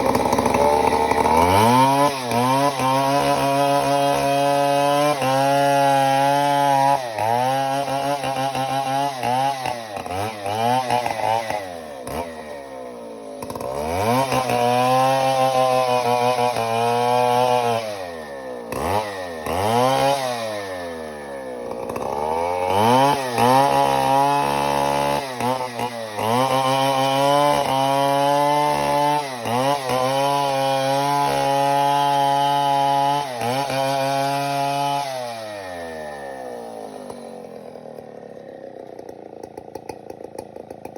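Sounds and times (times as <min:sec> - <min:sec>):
chainsaw cutting timber: 0:00.0 - 0:40.9.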